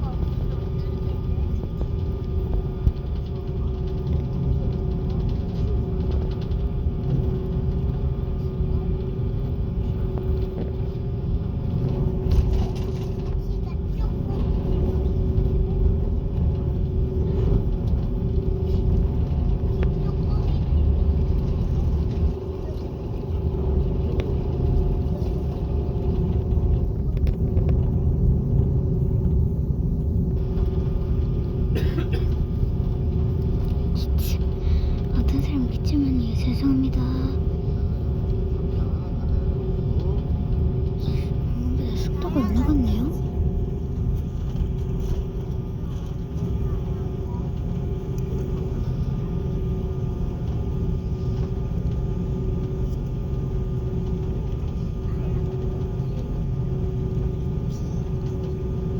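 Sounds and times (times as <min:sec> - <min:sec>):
airliner engines rumbling in cabin: 0:00.0 - 0:58.9.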